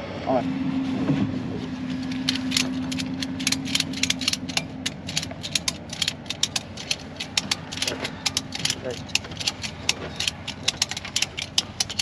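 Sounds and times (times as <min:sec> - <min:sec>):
steady low hum: 0:00.0 - 0:12.0
sharp mechanical clicks: 0:02.1 - 0:12.0.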